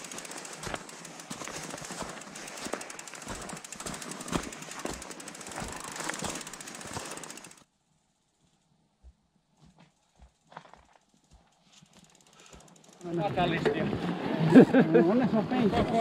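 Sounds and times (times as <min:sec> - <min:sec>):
bike tyres crunching over snow: 0:00.0 - 0:07.7, 0:09.0 - 0:14.7.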